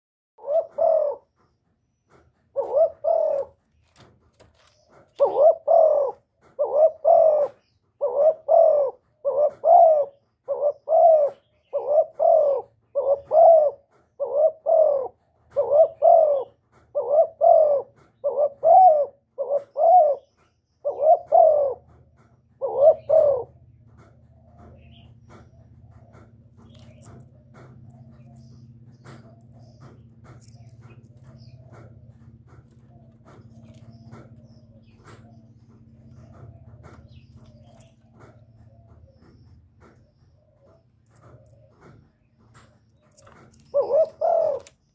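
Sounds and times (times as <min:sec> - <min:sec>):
dove cooing: 0:00.4 - 0:44.9.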